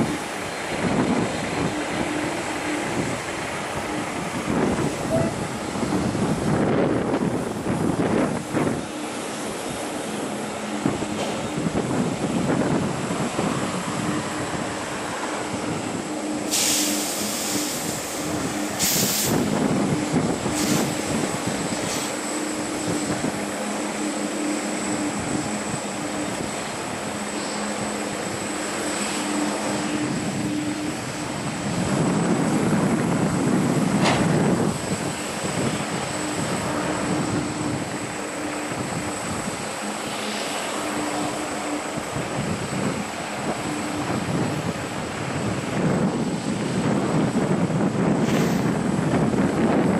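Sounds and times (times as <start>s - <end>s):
jet engines humming and whining: 0.0s - 49.9s
wind buffeting microphone: 0.0s - 49.9s.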